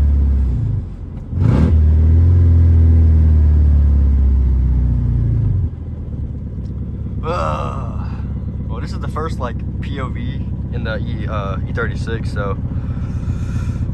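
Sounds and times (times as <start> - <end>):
car engine droning loudly: 0.0 - 13.9.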